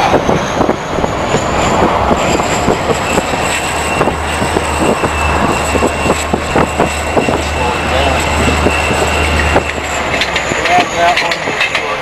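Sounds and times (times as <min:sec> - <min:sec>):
high whine: 0:00.0 - 0:12.0
train plowing through snow: 0:00.0 - 0:12.0.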